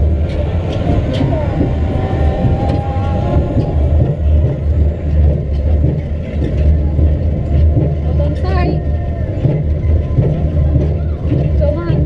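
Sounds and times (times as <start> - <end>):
roller coaster rumbling: 0.0 - 12.0.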